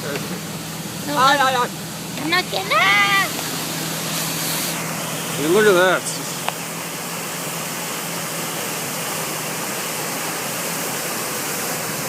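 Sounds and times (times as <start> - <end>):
waterfall rushing: 0.4 - 12.0.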